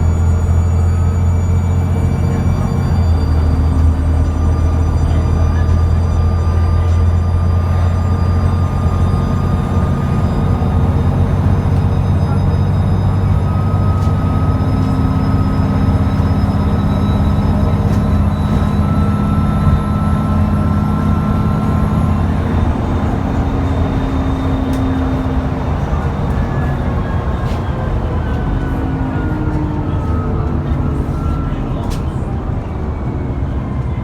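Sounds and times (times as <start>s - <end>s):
bus diesel engine drone: 0.0s - 34.0s
turbo whine: 0.0s - 34.0s.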